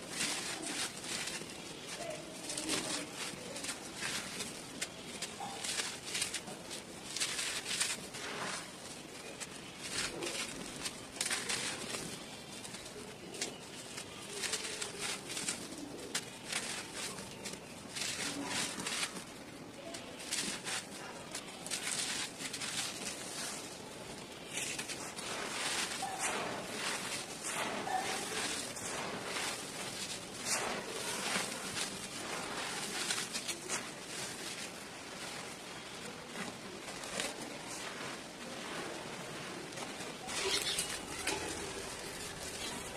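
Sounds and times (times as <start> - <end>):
dirt crumbling in hands: 0.0 - 42.9
grit sifting onto dirt: 0.0 - 42.9.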